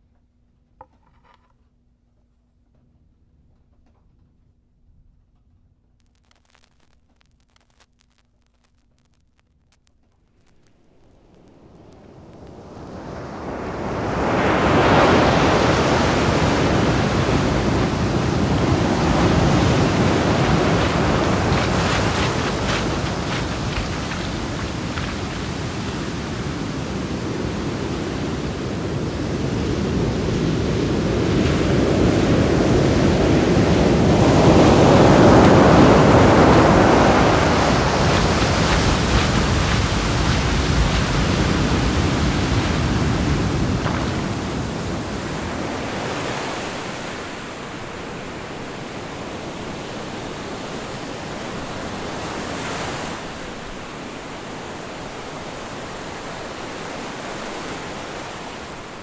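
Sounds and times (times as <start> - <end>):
surf washing against rocks: 10.8 - 59.0.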